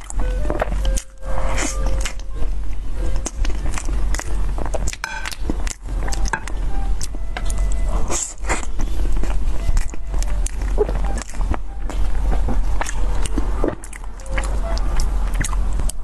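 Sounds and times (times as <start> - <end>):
close chewing with wet clicks: 0.0 - 16.0.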